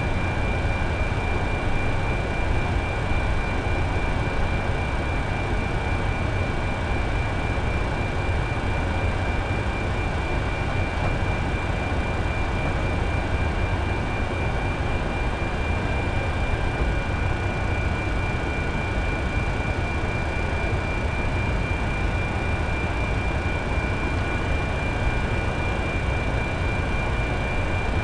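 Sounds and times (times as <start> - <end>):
steady high-pitched whine: 0.0 - 28.0.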